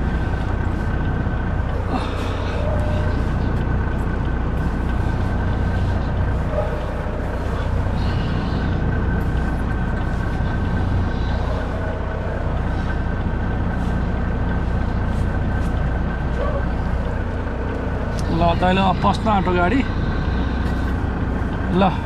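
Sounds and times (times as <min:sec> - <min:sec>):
diesel truck engine rumbling: 0:00.0 - 0:22.0
thin steady whine: 0:00.0 - 0:22.0.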